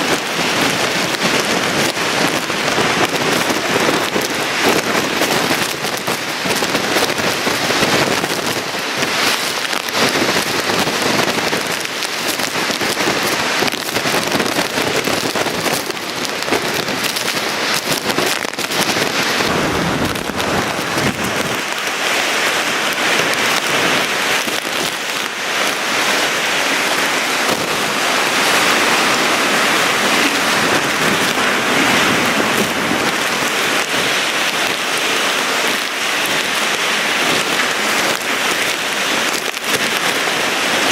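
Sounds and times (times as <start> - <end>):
heavy rain with crackles: 0.0 - 40.9.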